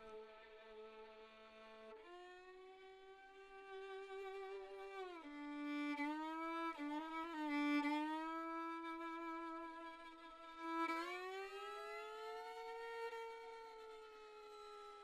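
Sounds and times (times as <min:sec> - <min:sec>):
solo violin playing held notes: 0:00.0 - 0:15.0.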